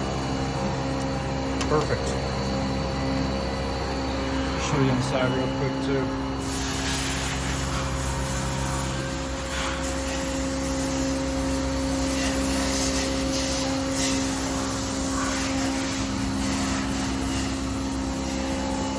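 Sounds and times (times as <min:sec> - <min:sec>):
machine hum: 0:00.0 - 0:18.9.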